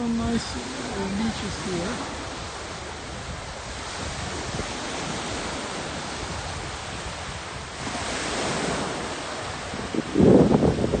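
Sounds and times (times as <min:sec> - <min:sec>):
waves washing on sandy beach: 0:00.0 - 0:11.0.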